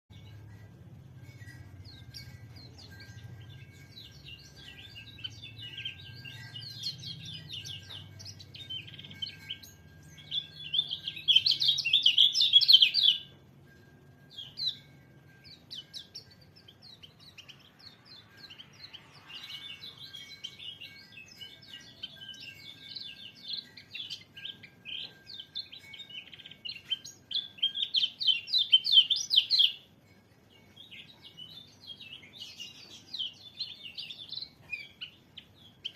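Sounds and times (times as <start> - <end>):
bird twittering song: 0.1 - 35.9.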